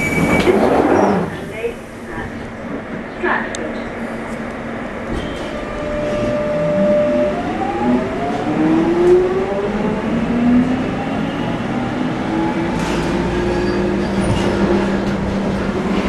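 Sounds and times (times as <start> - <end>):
train running rumble: 0.0 - 16.0
train traction whine: 0.0 - 16.0.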